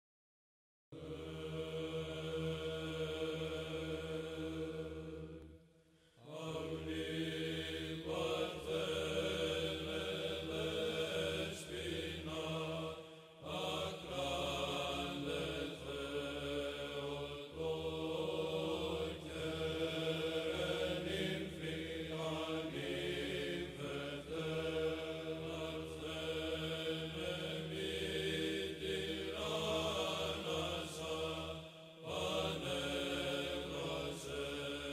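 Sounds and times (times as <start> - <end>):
voices chanting: 6.2 - 34.9.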